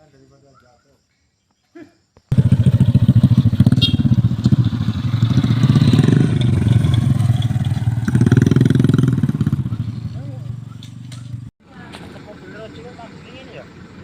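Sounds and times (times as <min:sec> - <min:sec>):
engine running: 0:02.3 - 0:14.0.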